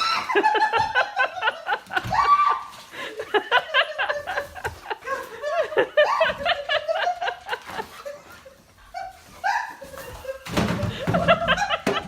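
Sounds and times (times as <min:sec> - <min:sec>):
people laughing and giggling: 0:00.0 - 0:12.0.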